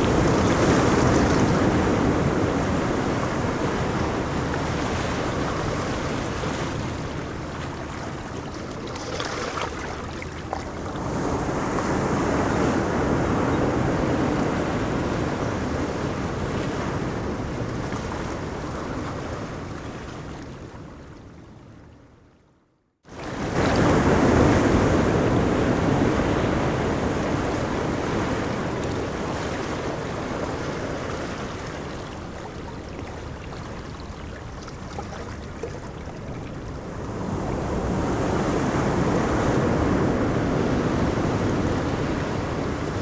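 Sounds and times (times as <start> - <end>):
ocean waves breaking on beach: 0.0 - 21.0, 23.1 - 43.0.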